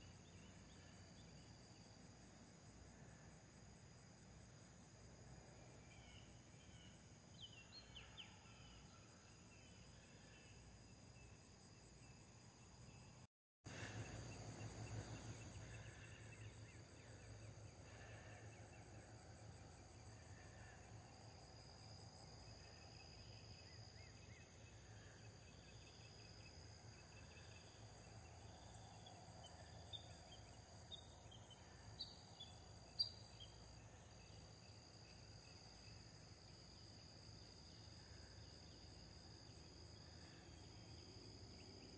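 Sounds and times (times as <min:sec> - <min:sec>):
crickets trilling: 0:00.0 - 0:41.9
steady insect tone: 0:00.0 - 0:41.9.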